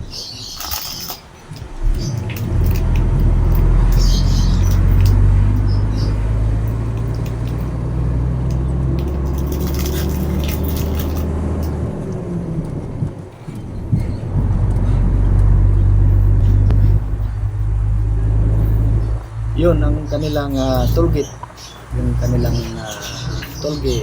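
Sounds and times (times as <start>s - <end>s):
truck diesel engine humming: 1.2s - 24.0s.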